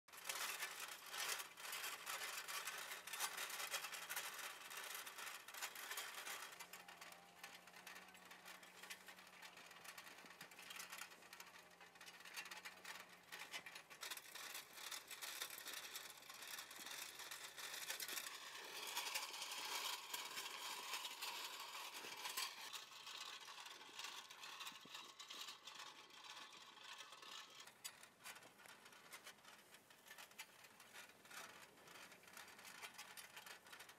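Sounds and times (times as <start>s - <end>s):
weeder tines scratching soil: 0.1s - 33.9s.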